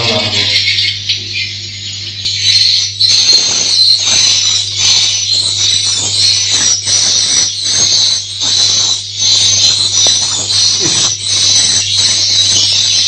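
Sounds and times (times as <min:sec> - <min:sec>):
steady low hum: 0:00.0 - 0:13.0
swiftlets twittering: 0:02.3 - 0:13.0.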